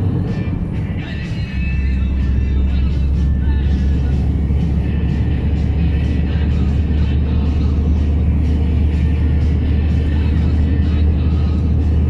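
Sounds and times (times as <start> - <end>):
heavy truck engine droning: 0.0 - 12.0
music playing: 0.0 - 12.0.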